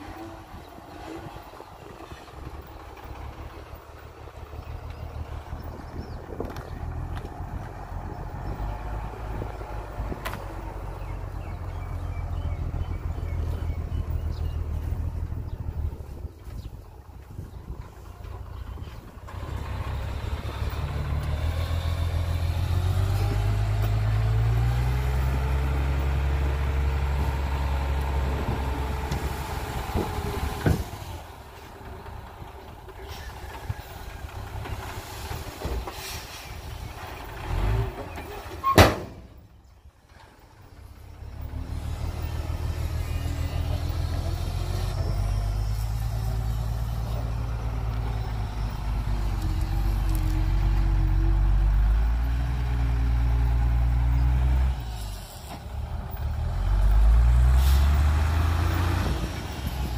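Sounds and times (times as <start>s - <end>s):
diesel truck engine whining: 0.0s - 59.9s.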